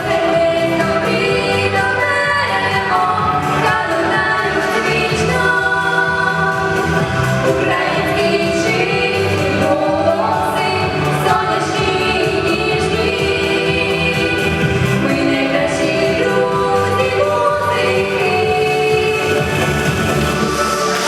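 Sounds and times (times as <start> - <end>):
musical accompaniment: 0.0 - 21.0.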